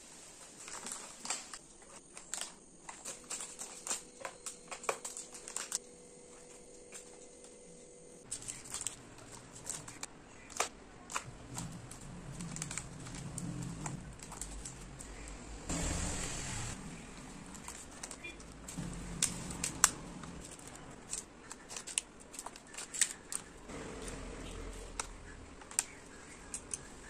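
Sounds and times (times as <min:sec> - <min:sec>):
plastic wrappers crinkling: 0:00.3 - 0:05.8, 0:08.2 - 0:15.4, 0:16.8 - 0:27.0.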